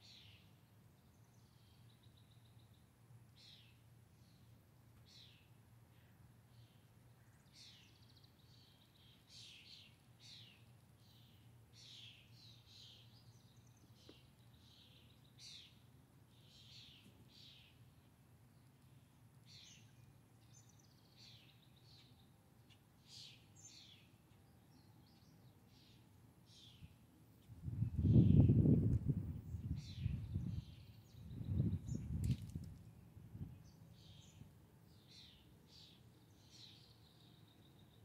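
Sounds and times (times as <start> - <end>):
songbirds chirping faintly: 0.0 - 38.0.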